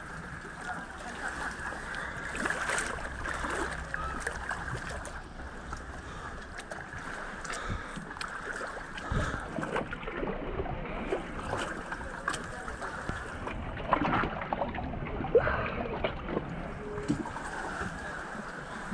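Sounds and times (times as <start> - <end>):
water splashing among rocks: 0.6 - 18.9.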